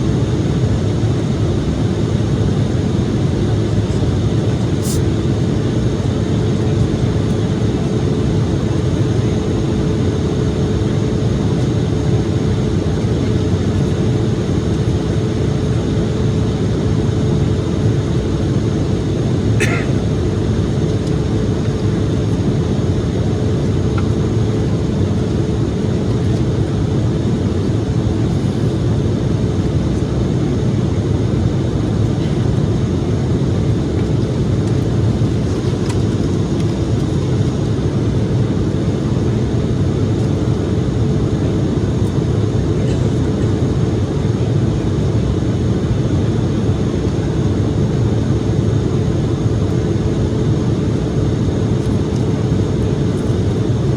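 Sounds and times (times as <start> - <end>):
airplane cabin rumble: 0.0 - 53.9
faint constant hum: 0.0 - 53.9.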